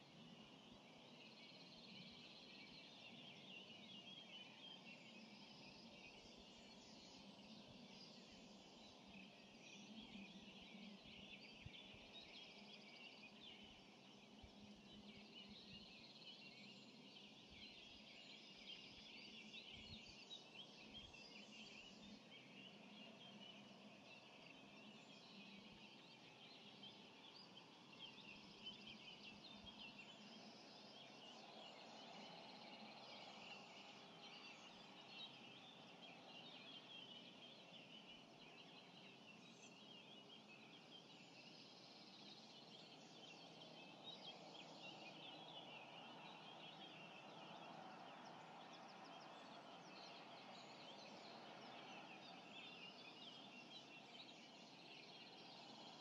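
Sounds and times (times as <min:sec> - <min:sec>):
many songbirds singing: 0:00.0 - 0:56.0.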